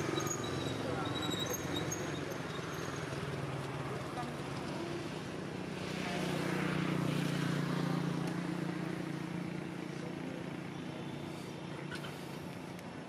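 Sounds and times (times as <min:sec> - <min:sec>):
vehicle engine passing by: 0:00.0 - 0:12.6.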